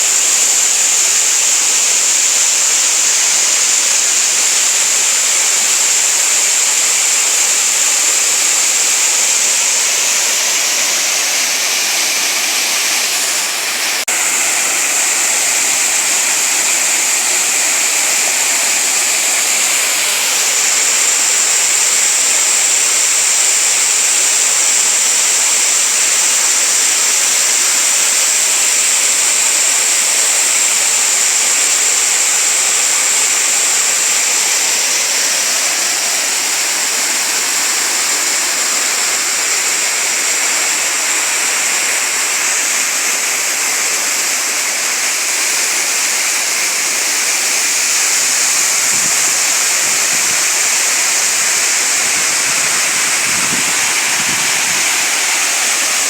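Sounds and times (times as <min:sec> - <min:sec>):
waterfall rushing into stream: 0:00.0 - 0:56.0.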